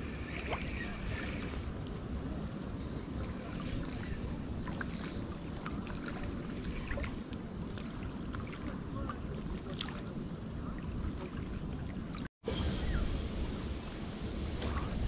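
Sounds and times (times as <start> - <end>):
small waves lapping: 0.0 - 15.0
strong wind buffeting microphone: 0.0 - 15.0.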